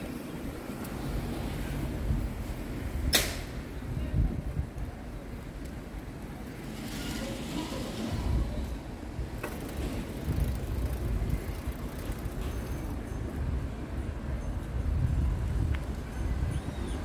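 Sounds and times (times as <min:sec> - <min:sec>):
road traffic noise: 0:00.0 - 0:17.0
wind rumbling on microphone: 0:00.0 - 0:17.0.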